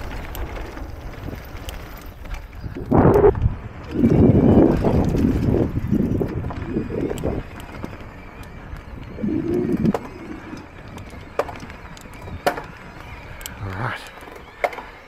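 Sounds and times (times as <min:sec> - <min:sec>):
wind rumble: 0:00.0 - 0:14.6
bike clicks and knocks: 0:00.0 - 0:15.0
bike tyres rolling on dirt: 0:00.0 - 0:15.0.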